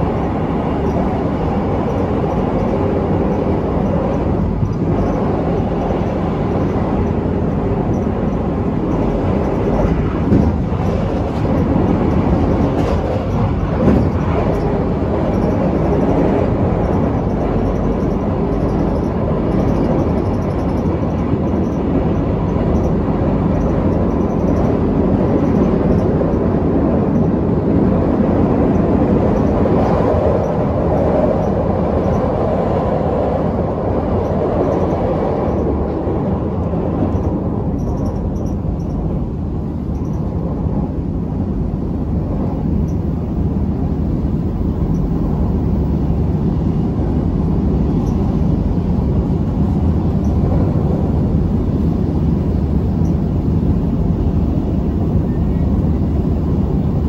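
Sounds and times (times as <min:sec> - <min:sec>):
train wheels rumbling inside carriage: 0:00.0 - 0:57.0.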